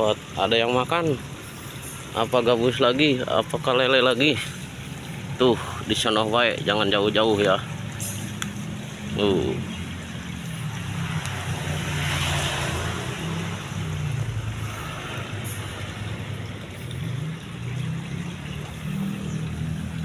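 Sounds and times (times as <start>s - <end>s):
low hum of traffic: 0.0s - 20.0s.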